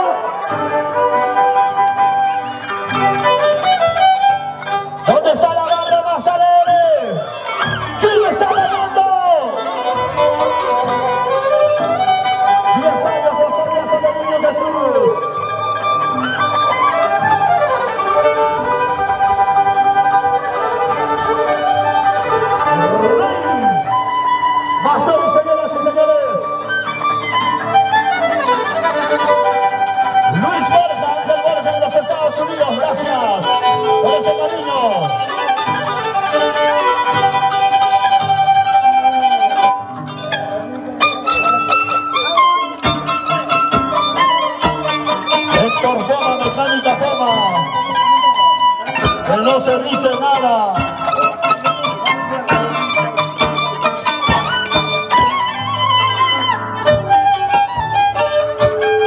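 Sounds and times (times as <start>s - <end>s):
plucked strings steady beat: 0.0s - 59.0s
violins with sliding notes: 0.0s - 59.0s.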